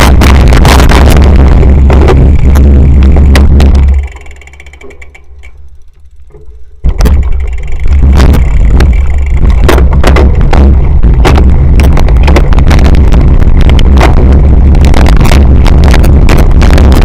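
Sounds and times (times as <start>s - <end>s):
fine ticking: 0.0s - 17.0s
wind rumble: 0.0s - 17.0s.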